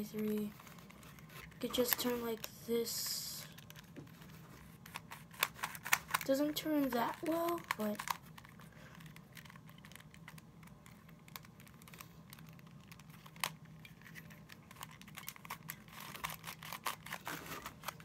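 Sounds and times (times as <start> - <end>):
puzzle cube clicking and rattling: 0.1 - 18.0.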